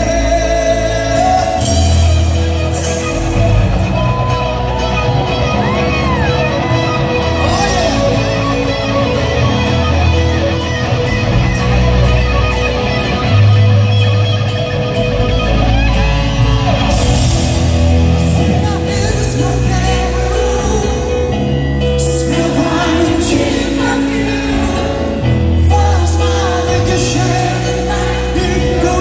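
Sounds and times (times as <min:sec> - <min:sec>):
amplified electric guitar: 0:00.0 - 0:29.0
live rock music: 0:00.0 - 0:29.0.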